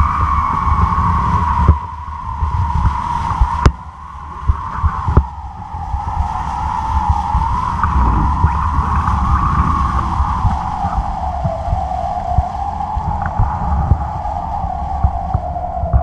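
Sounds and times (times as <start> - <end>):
wavering whistle: 0.0 - 16.0
wind buffeting camera: 0.0 - 16.0.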